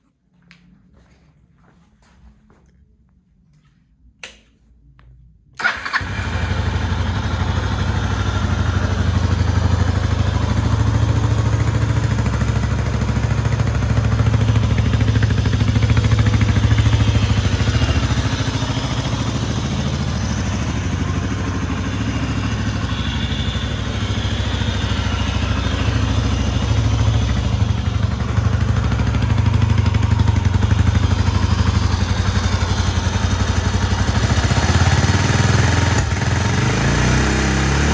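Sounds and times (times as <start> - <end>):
motorcycle engine starting and idling: 5.6 - 37.9.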